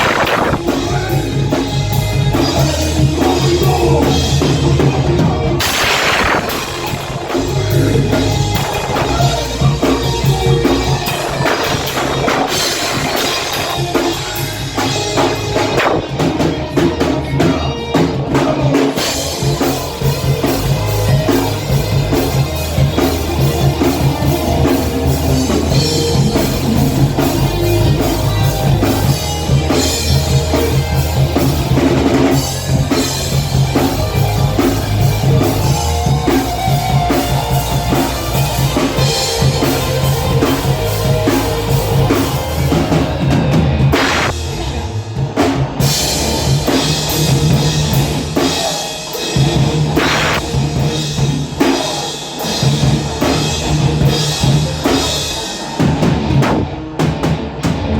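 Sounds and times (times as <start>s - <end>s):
bass guitar: 0.0s - 57.9s
distorted electric guitar: 0.0s - 57.9s
drum kit pounding: 0.0s - 57.9s.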